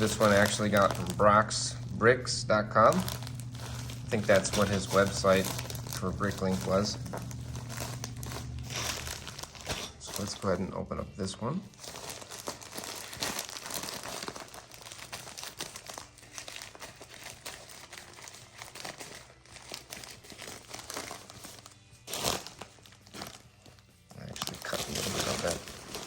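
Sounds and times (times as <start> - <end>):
packaging crinkling: 0.0 - 2.0, 2.7 - 10.6, 11.7 - 26.0.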